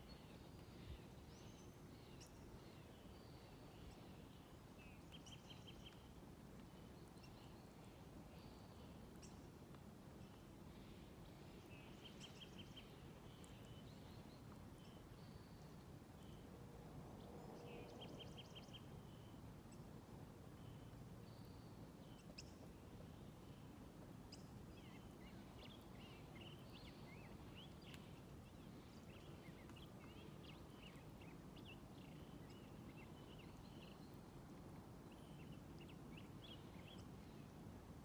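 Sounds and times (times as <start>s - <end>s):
low background noise: 0.0s - 38.0s.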